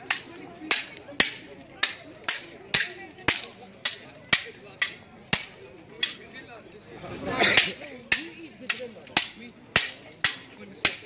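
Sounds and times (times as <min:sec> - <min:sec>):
stick striking a shield: 0:00.0 - 0:06.2, 0:07.5 - 0:11.0.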